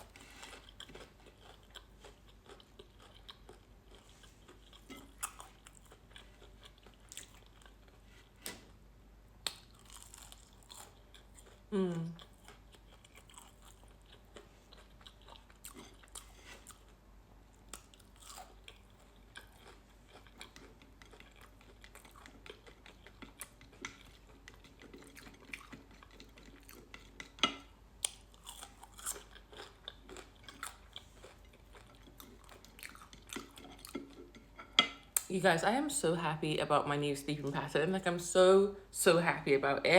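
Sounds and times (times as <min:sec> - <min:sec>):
person chewing food: 0:00.0 - 0:08.8, 0:09.4 - 0:35.3.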